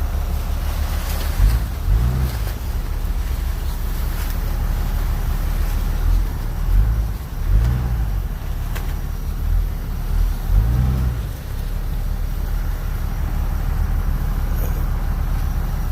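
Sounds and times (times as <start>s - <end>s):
vehicle engine revving: 0.0s - 15.9s.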